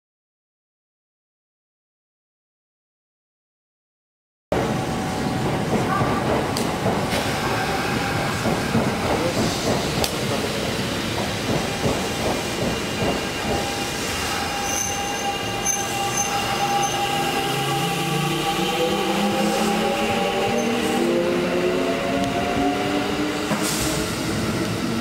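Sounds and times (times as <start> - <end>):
train wheels rumbling on rails: 4.5 - 25.0.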